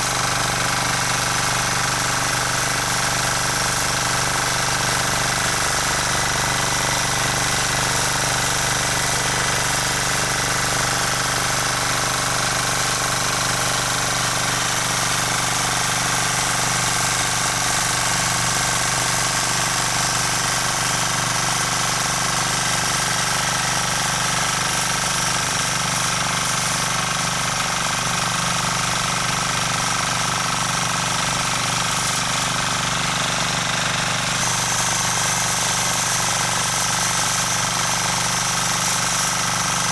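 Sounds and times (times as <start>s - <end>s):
rotary tiller engine running: 0.0s - 39.9s
tines tilling soil: 0.0s - 39.9s.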